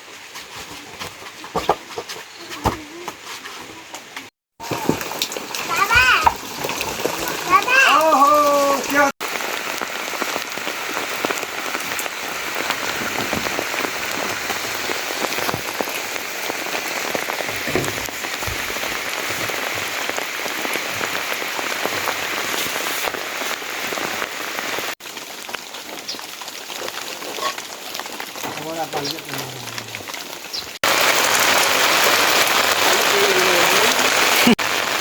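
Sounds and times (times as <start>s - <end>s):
steady rain falling: 2.6s - 35.0s.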